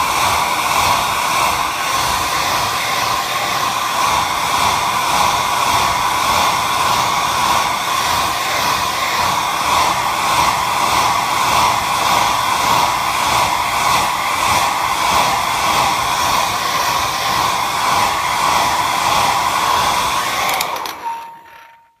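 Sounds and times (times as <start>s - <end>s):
hair dryer blowing: 0.0s - 21.9s.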